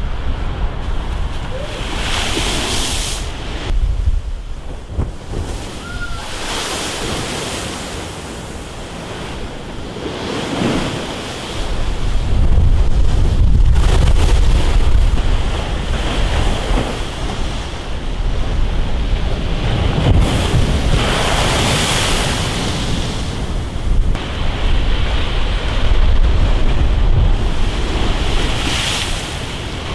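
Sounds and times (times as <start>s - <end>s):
sea waves crashing: 0.0s - 29.9s
wind buffeting microphone: 0.0s - 29.9s.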